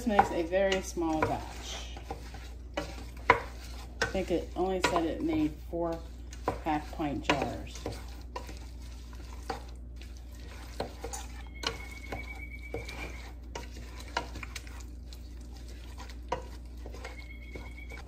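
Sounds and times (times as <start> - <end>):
spoon clinking and scraping a pot: 0.0 - 18.0.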